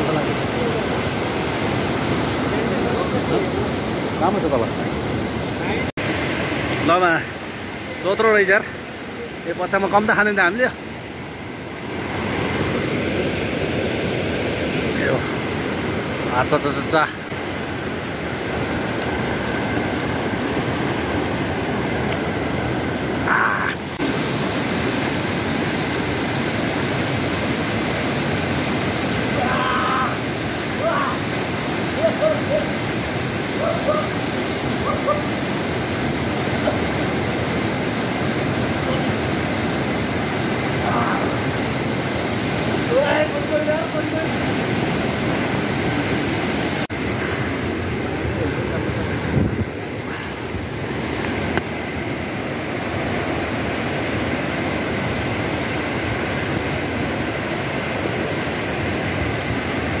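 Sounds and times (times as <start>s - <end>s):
river water rushing over rocks: 0.0s - 60.0s.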